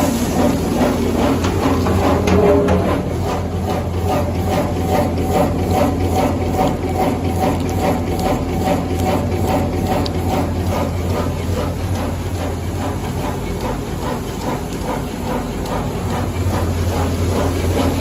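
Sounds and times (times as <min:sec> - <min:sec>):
steady motor hum: 0:00.0 - 0:18.0.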